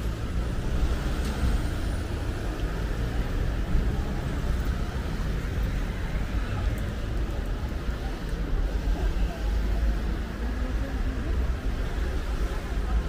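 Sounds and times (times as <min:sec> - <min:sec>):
street traffic engine and tyre noise: 0:00.0 - 0:13.0.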